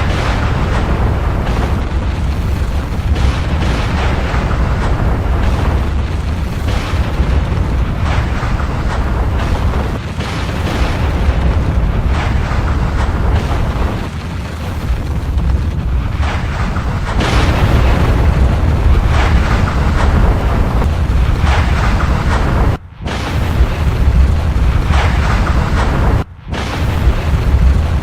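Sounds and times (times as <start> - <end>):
deep volcanic rumble: 0.0 - 28.0
rushing crackling surges: 0.0 - 28.0.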